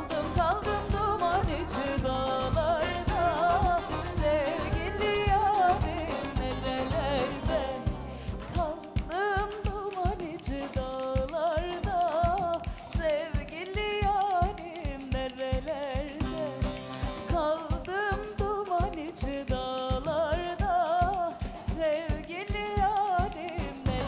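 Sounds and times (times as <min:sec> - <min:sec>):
instrumental accompaniment with beat: 0:00.0 - 0:24.0
woman singing folk song: 0:00.0 - 0:24.0.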